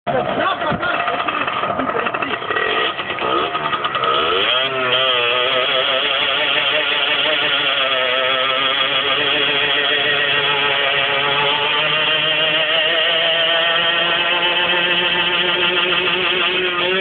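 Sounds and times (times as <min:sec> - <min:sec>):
motorcycle engine revving: 0:00.1 - 0:17.0
rear tyre spinning: 0:00.1 - 0:17.0.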